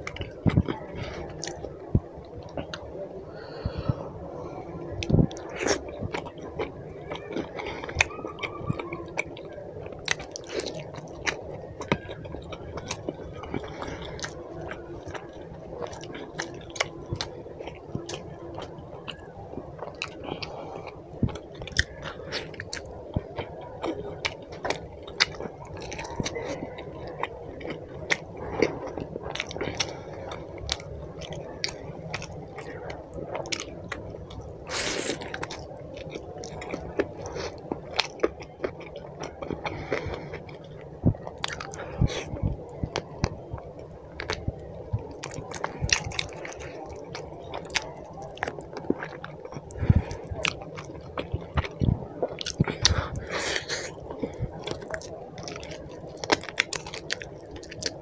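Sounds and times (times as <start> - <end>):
chewing and mouth smacking: 0.0 - 2.8, 5.0 - 58.0.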